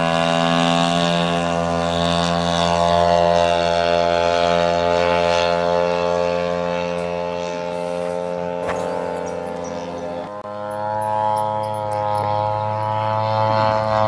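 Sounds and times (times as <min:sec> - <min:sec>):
model plane engine droning: 0:00.0 - 0:14.0.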